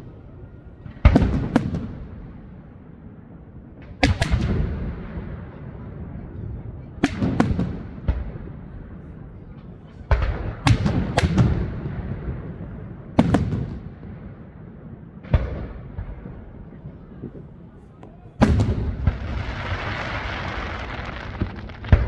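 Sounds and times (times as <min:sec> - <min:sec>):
fireworks bangs: 0:00.0 - 0:02.6, 0:03.8 - 0:14.4, 0:15.2 - 0:22.0
rumbling echo: 0:00.0 - 0:22.0.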